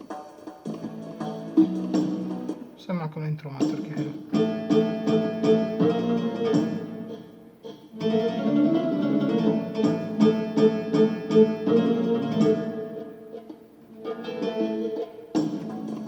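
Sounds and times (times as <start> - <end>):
steady rhythm beat: 0.0 - 16.0
plucked-string accompaniment: 0.1 - 2.8, 3.4 - 16.0.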